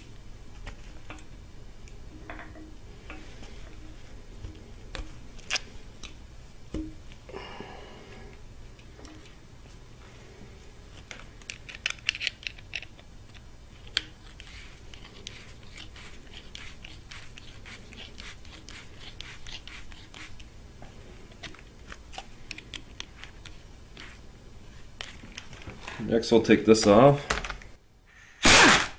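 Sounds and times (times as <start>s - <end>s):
steady low hum: 0.0s - 28.4s.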